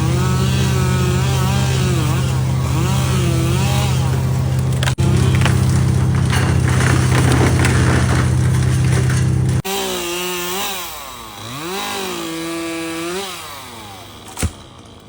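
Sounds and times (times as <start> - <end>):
chainsaw revving: 0.0 - 14.8
chainsaw cutting wood: 0.0 - 15.0.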